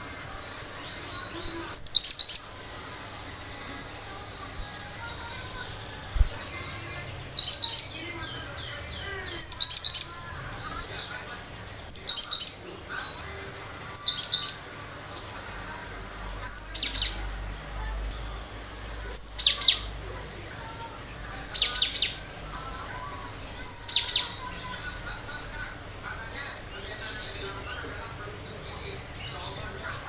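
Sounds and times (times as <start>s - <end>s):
bird singing sharp phrases: 0.0s - 14.8s, 16.4s - 20.0s, 21.4s - 30.0s.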